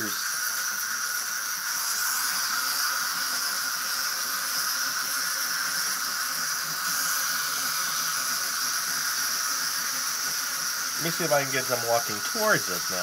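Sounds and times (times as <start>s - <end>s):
wind-up walking toys whirring: 0.0s - 13.0s.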